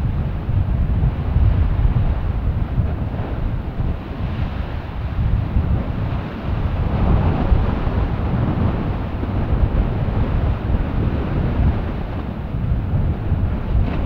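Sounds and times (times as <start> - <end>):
lava fountains rumbling: 0.0 - 14.0
wind noise on microphone: 0.0 - 14.0.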